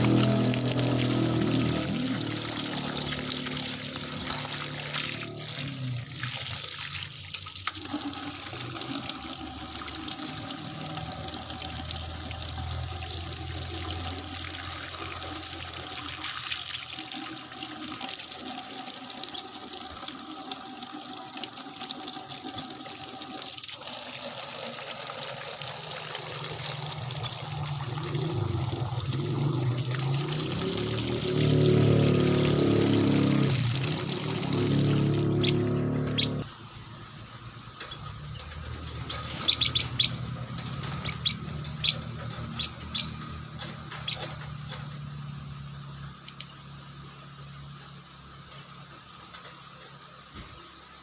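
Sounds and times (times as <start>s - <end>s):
water running: 0.0s - 46.5s.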